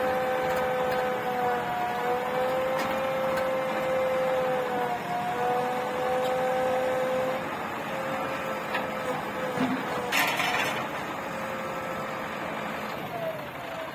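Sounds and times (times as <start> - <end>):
diesel engines running: 0.0 - 13.9.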